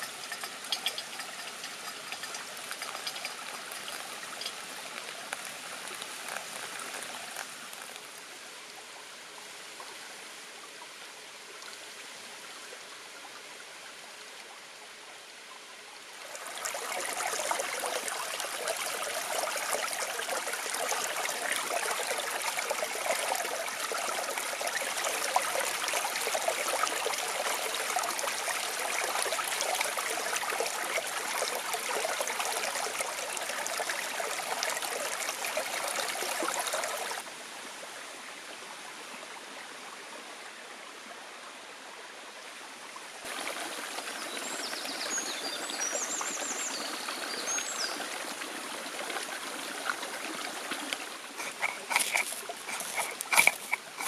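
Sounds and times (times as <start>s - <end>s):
stream babbling over rocks: 0.0s - 38.4s, 43.1s - 54.0s.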